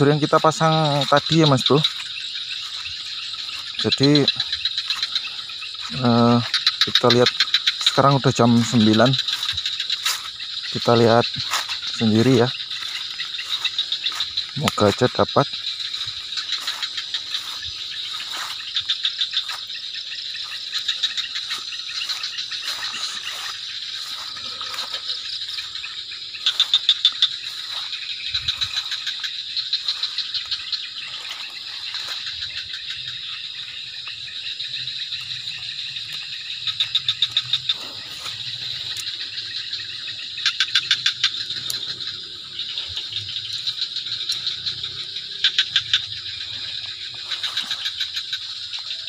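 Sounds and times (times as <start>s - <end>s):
frogs rapid pulsed calls: 0.0s - 49.0s
insects trilling: 0.0s - 49.0s.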